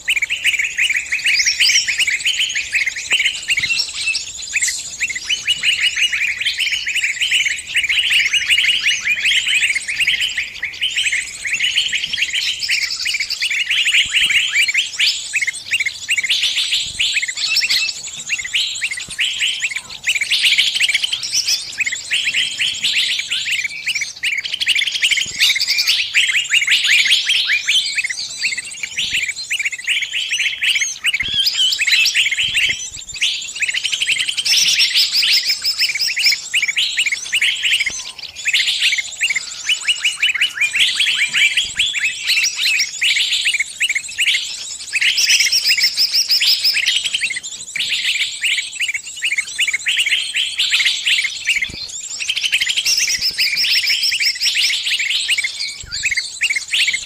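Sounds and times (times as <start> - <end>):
small bird distress calls: 0.0 - 57.0.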